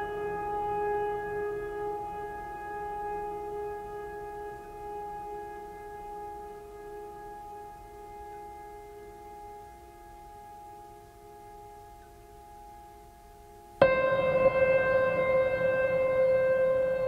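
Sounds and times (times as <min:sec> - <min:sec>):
sustained chord music: 0:00.0 - 0:17.0.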